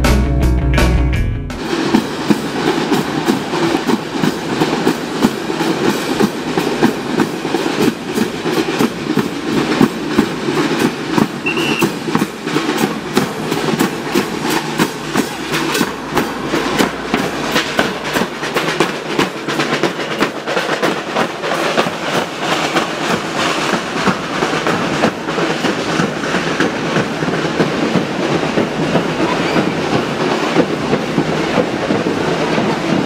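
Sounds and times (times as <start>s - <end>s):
marching snare and bass drums: 0.0s - 33.0s.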